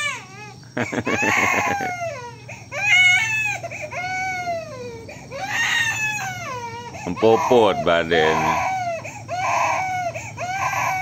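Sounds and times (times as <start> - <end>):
baby crying: 0.0 - 11.0.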